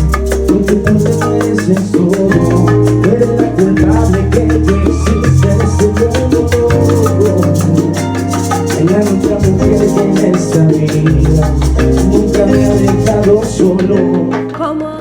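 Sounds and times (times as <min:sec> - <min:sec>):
shaker: 0:00.0 - 0:14.5
salsa band music: 0:00.0 - 0:14.7.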